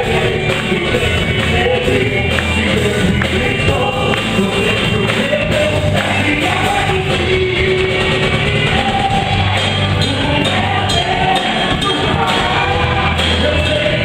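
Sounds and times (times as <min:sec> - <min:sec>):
live gospel band: 0:00.0 - 0:14.0
person singing: 0:00.0 - 0:14.0
steady bass and drums: 0:00.0 - 0:14.0.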